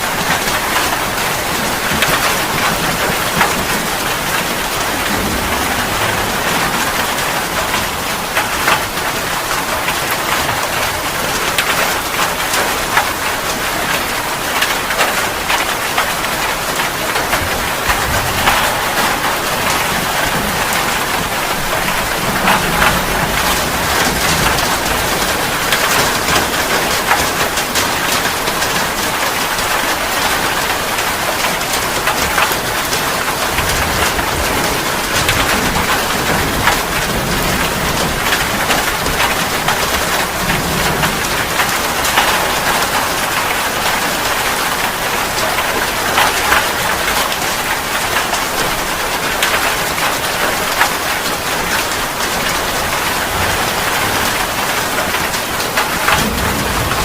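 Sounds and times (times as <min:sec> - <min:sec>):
rain drops ticking on surface: 0:00.0 - 0:57.0
steady rain hiss: 0:00.0 - 0:57.0.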